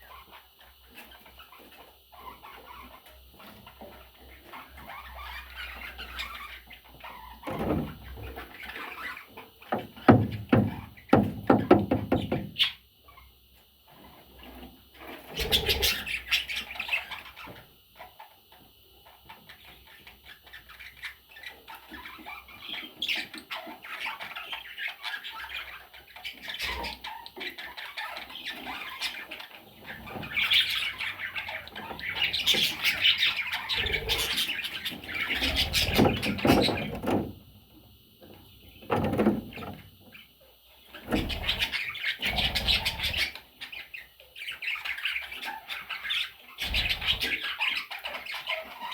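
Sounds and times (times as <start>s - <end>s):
budgerigars squawking and chattering: 0.0s - 13.3s, 13.9s - 48.9s.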